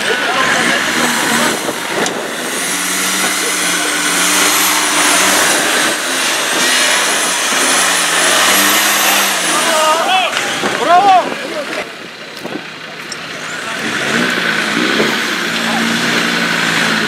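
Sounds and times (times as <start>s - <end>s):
diesel engine revving hard: 0.0s - 17.0s.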